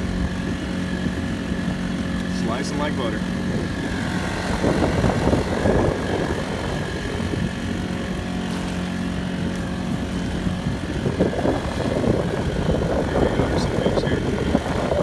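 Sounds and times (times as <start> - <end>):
outboard engine running: 0.0 - 15.0
water splashing against boat: 0.0 - 15.0.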